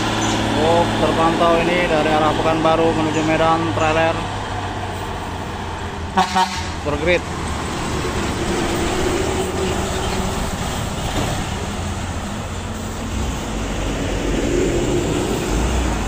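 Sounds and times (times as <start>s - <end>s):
diesel trucks passing: 0.0s - 16.0s.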